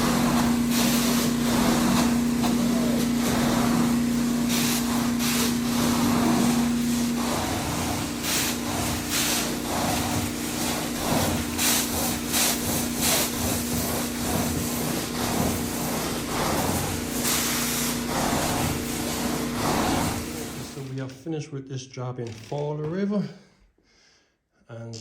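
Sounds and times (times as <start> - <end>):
carpet cleaner motor hum: 0.0 - 20.9.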